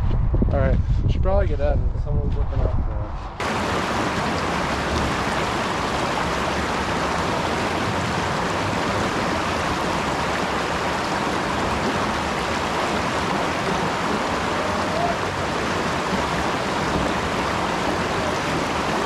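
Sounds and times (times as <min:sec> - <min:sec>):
floodwater rushing: 0:03.4 - 0:19.0.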